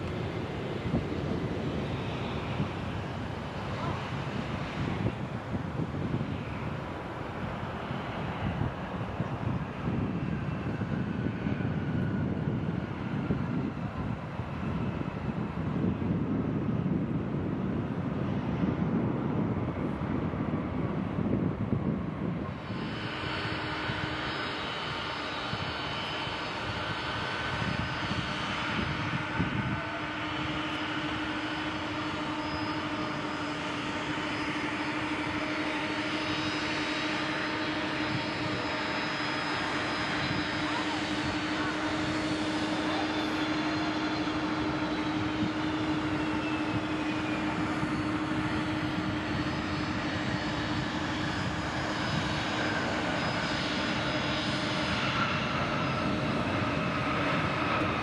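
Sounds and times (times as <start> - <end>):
jet engine rumble: 0.0 - 58.0.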